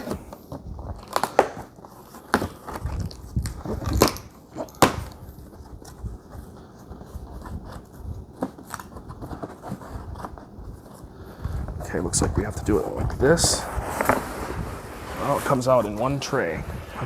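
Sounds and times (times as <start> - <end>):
cardboard crackling and scraping: 0.0 - 17.0.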